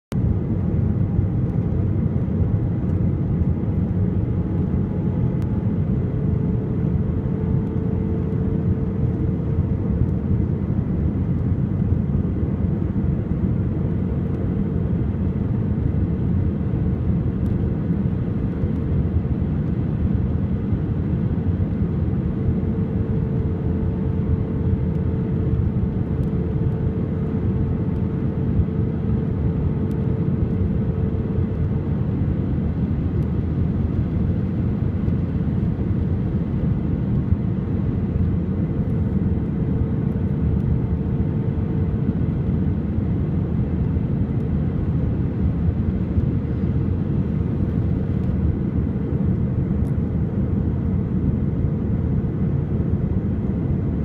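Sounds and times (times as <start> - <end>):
airplane cabin rumble: 0.1 - 54.0
faint hum: 0.1 - 54.0.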